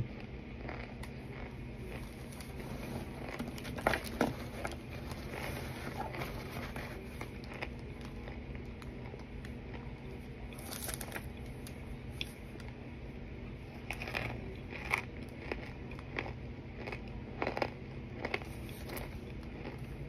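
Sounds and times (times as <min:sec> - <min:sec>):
person chewing crisp food: 0:00.0 - 0:12.8, 0:13.7 - 0:20.0.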